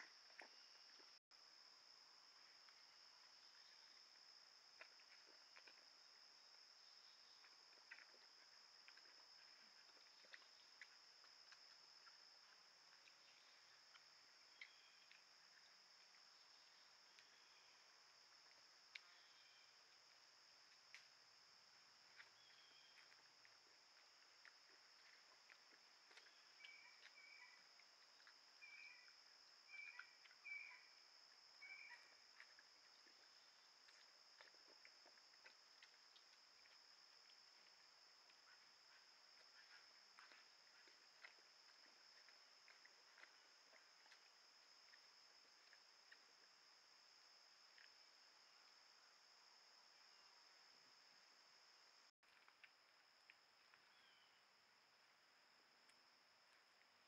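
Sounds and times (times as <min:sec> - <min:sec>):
insects trilling: 0:02.4 - 0:50.5, 0:53.6 - 0:54.5.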